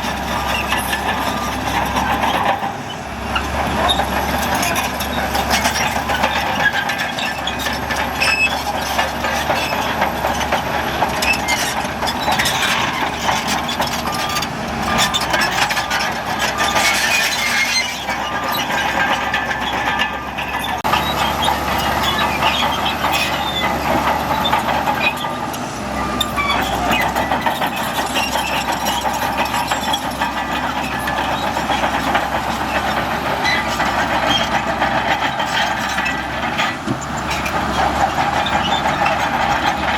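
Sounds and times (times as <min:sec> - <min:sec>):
bulldozer diesel engine under load: 0:00.0 - 0:39.9
steel tracks clanking: 0:00.0 - 0:39.9.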